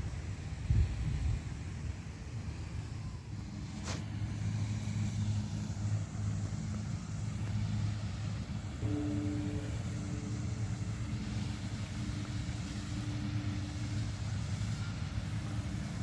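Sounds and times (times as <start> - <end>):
higher steady hum: 0.0 - 16.0
motor engine rumbling: 0.0 - 16.0.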